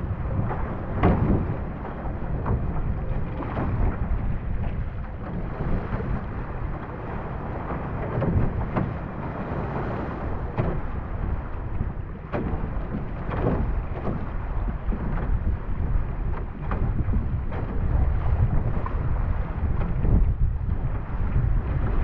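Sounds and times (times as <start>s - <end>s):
paddle splashes: 0.0s - 22.0s
water rushing along hull: 0.0s - 22.0s
wind on microphone: 0.0s - 22.0s.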